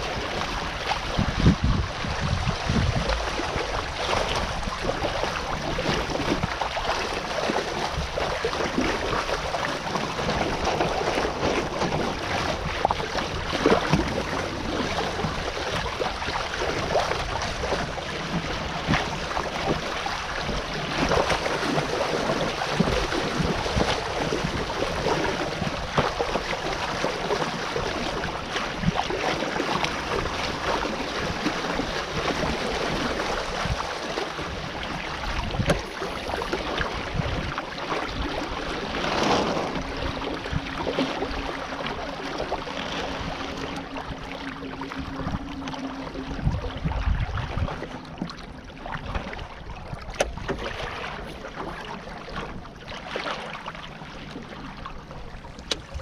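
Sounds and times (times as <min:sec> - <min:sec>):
wind buffeting microphone: 0:00.0 - 0:48.4
water splashing against a hull: 0:00.0 - 0:56.0.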